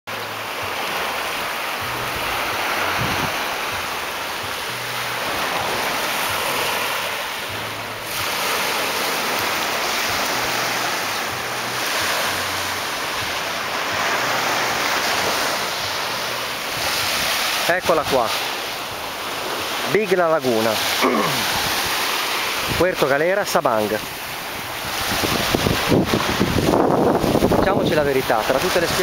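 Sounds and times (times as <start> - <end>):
small waves breaking on sand: 0.1 - 29.0
wind on microphone: 1.8 - 19.8, 21.4 - 23.0, 23.9 - 29.0.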